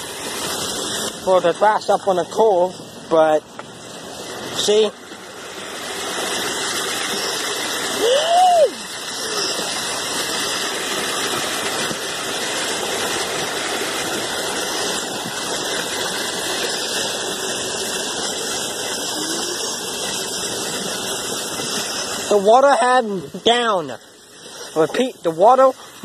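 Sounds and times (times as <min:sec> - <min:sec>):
water rushing into storm drain: 0:00.0 - 0:26.0.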